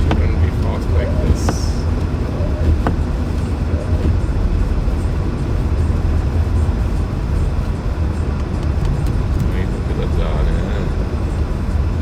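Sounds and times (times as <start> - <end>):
car driving on snowy highway: 0.0 - 12.0.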